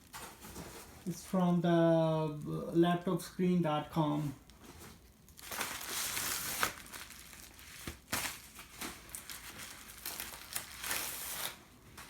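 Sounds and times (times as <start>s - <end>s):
packaging crinkling and rustling: 0.0s - 2.7s, 4.0s - 12.0s.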